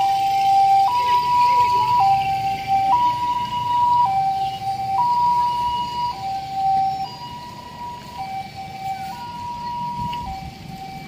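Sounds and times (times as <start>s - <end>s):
ambulance siren two-tone wail: 0.0s - 11.0s.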